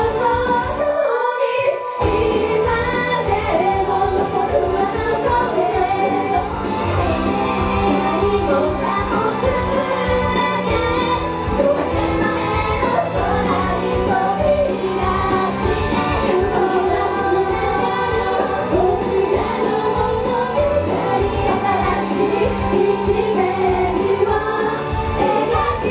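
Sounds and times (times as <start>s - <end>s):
women singing pop song: 0.0s - 25.9s.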